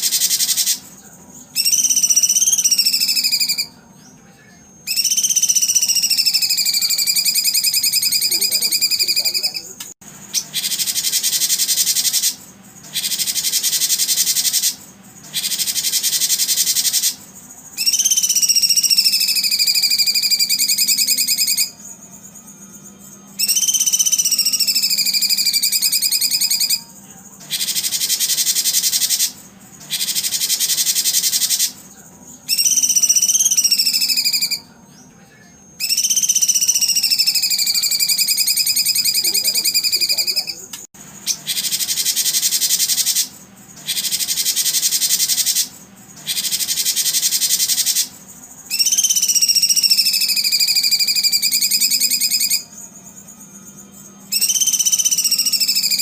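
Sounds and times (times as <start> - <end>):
songbird whistled notes: 0.0 - 4.2, 4.8 - 35.2, 35.8 - 56.0
buzzy high-pitched bird trills: 0.0 - 56.0
faint steady hum: 0.0 - 56.0.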